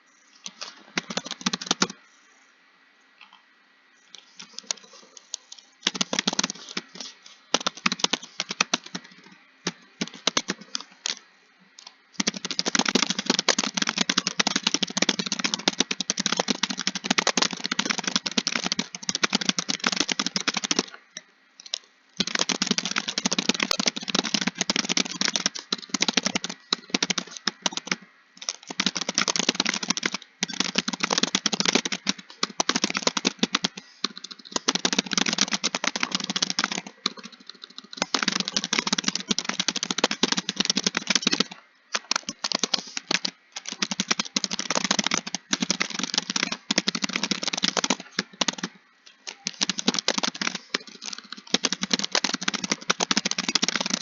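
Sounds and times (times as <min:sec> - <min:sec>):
fast typing on keyboard: 0:00.4 - 0:02.0, 0:04.1 - 0:21.0, 0:21.6 - 0:54.0.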